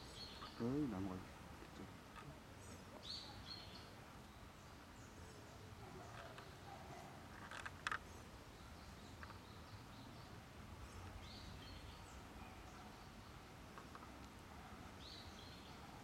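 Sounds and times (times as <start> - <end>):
faint bird chirps: 0.0 - 0.8, 2.4 - 16.0.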